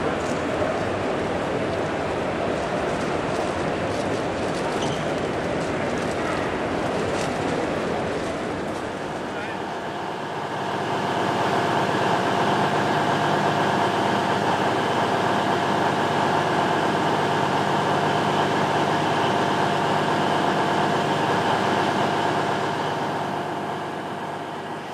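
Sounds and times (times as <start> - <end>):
steady mechanical drone: 0.0 - 24.9.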